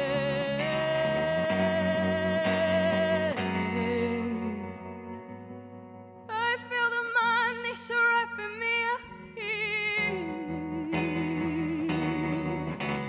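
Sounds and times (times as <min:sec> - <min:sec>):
woman singing with vibrato: 0:00.0 - 0:05.0, 0:06.3 - 0:13.0
sustained electric guitar chords: 0:00.0 - 0:13.0.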